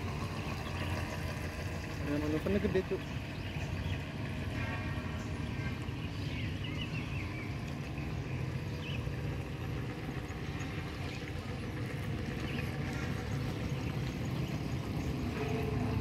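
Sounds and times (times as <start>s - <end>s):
model boat motor humming: 0.0s - 16.0s.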